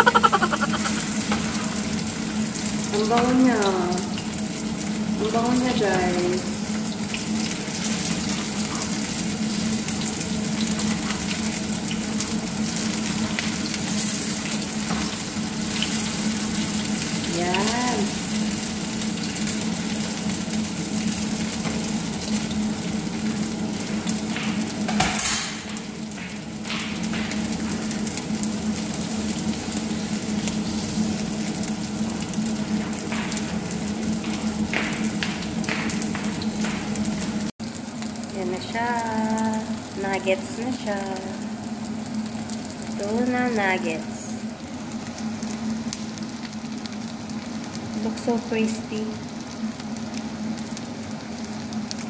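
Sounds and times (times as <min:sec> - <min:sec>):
fish frying in oil: 0:00.0 - 0:52.0.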